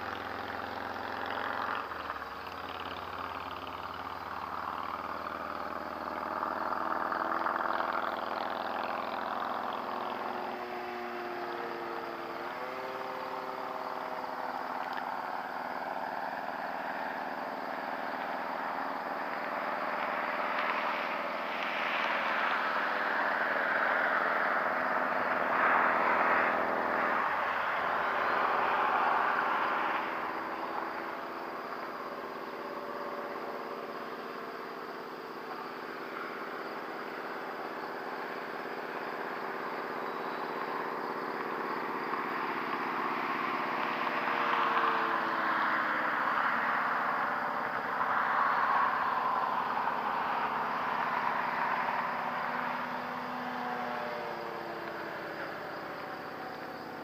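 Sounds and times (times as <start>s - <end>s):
model airplane propeller drone: 0.0s - 57.0s.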